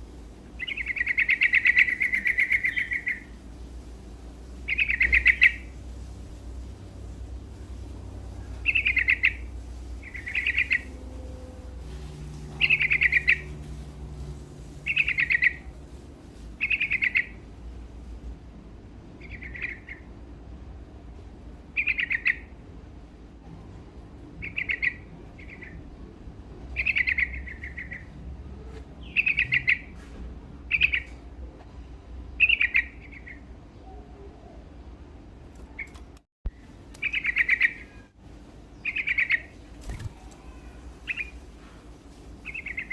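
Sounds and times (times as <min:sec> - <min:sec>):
faint low hum: 0:00.0 - 0:42.9.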